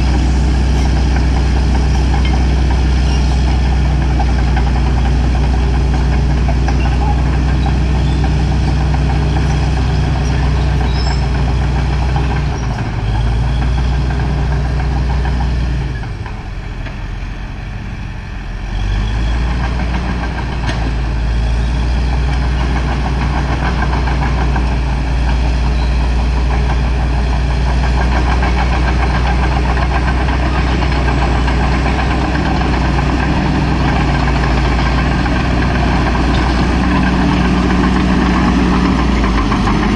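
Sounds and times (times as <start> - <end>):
dozer diesel engine running: 0.0 - 39.9.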